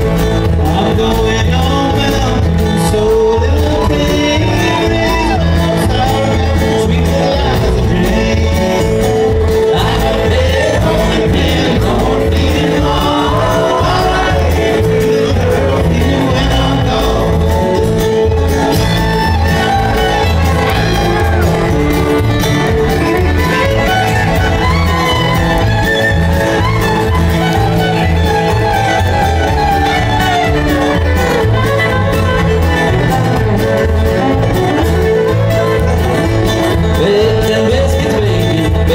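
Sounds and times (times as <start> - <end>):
acoustic guitars: 0.0 - 38.9
banjo: 0.0 - 38.9
fiddle: 0.0 - 38.9
upright bass: 0.0 - 38.9.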